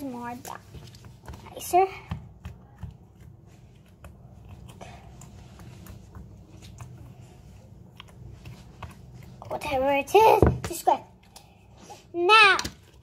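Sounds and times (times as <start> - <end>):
slime being stirred: 0.0 - 13.0.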